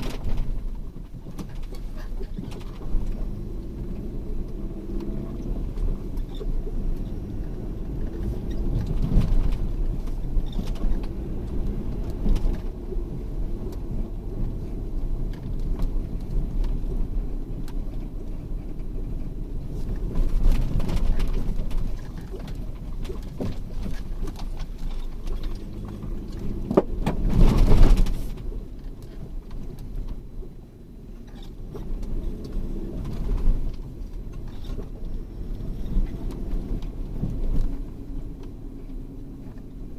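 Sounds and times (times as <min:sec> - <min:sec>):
vehicle engine on rough ground: 0:00.0 - 0:39.9.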